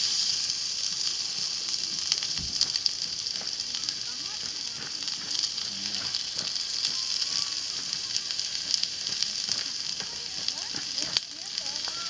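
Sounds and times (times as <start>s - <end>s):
food sizzling in a pan: 0.0s - 12.0s
pops and crackles: 0.0s - 12.0s.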